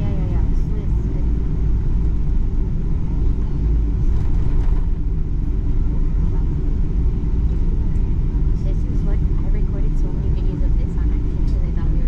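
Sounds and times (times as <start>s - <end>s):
airliner engine rumble: 0.0s - 12.0s.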